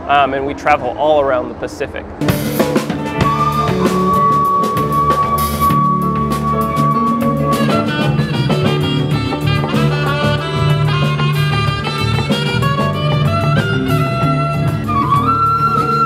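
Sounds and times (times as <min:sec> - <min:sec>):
live band music: 0:02.2 - 0:16.0.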